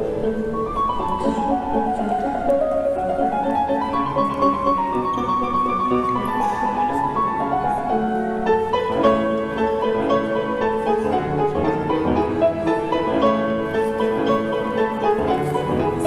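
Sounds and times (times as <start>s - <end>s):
classical piano music: 0.0s - 16.0s.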